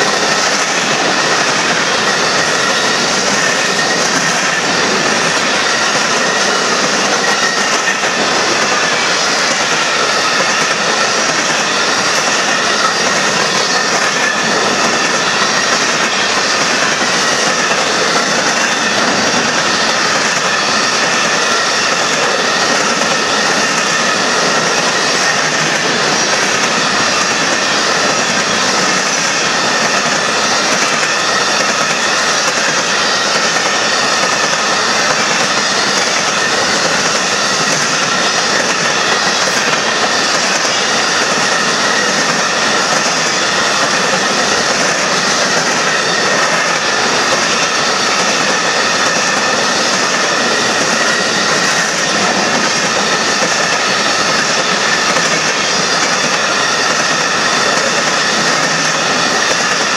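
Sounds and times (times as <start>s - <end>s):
high wheel squeal: 0.0s - 59.9s
steel train wheels rumbling on rail: 0.0s - 59.9s.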